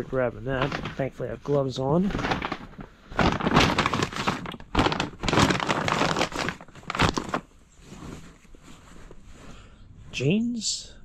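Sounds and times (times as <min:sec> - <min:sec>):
clothing and plastic rustling: 0:00.0 - 0:09.7.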